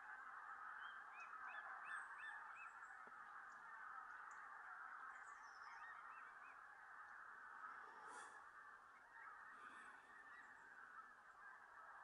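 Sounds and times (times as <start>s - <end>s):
distant geese honking: 0.0s - 12.0s.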